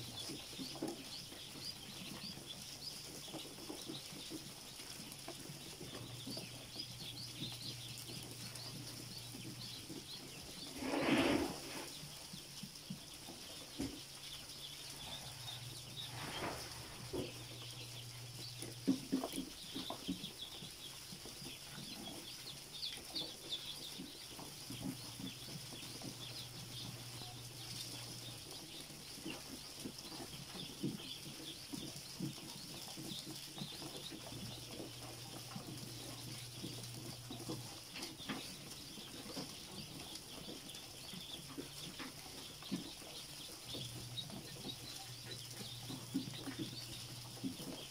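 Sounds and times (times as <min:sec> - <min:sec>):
ducklings peeping: 0:00.0 - 0:47.9.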